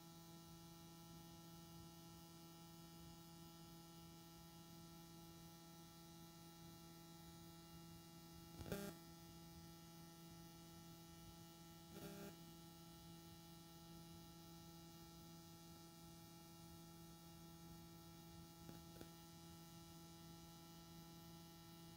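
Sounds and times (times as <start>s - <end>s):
faint electrical hum: 0.0s - 21.9s.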